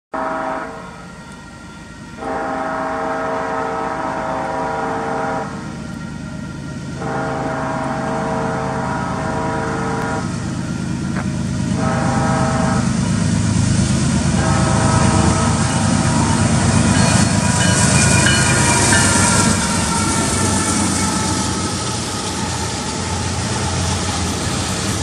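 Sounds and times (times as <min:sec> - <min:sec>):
locomotive air horn blasts: 0:00.1 - 0:13.4, 0:14.1 - 0:24.2
diesel engines rumbling: 0:00.2 - 0:25.0.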